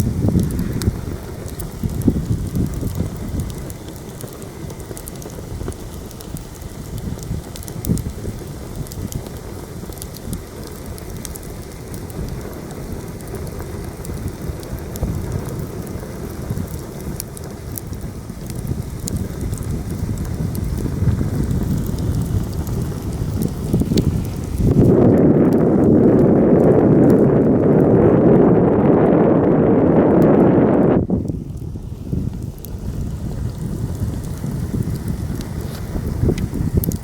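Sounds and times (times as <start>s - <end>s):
campfire crackling and popping: 0.0s - 37.0s
wind buffeting microphone: 0.0s - 37.0s.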